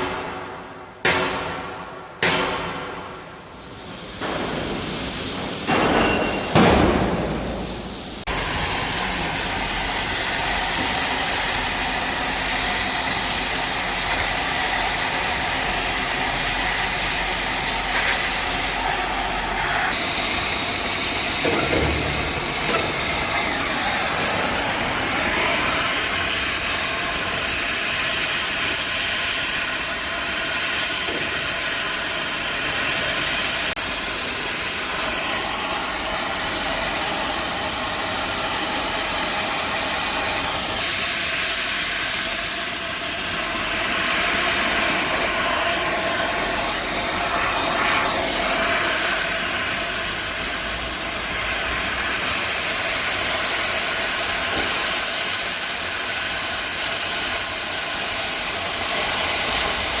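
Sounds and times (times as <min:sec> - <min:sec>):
cutting torch hissing: 0:03.7 - 1:00.0.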